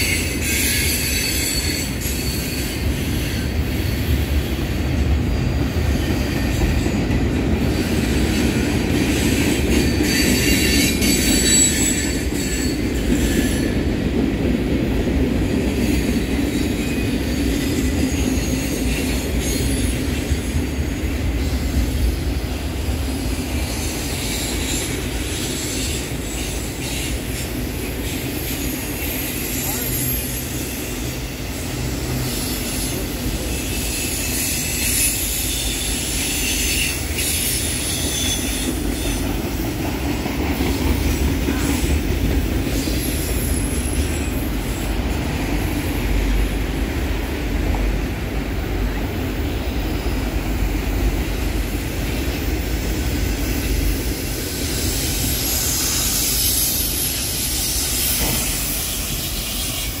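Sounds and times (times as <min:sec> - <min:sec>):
train wheels squealing: 0:00.0 - 0:14.0, 0:15.4 - 0:47.1, 0:49.7 - 1:00.0
freight train wheels rumbling on rails: 0:00.0 - 1:00.0.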